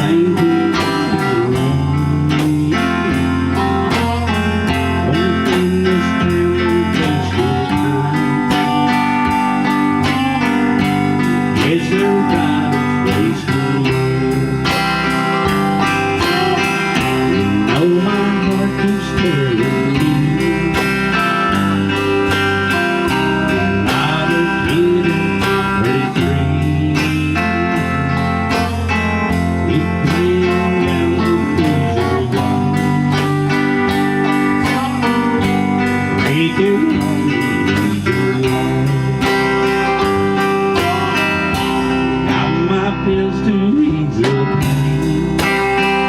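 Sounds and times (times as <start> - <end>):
band playing slow song: 0.0 - 46.0
lead guitar solo: 0.0 - 46.0.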